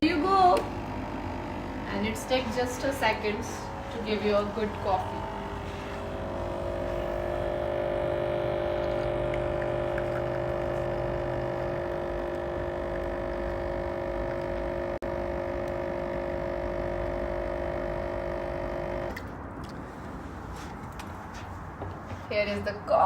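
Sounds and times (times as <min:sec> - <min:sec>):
coffee machine pump humming: 0:00.0 - 0:19.4.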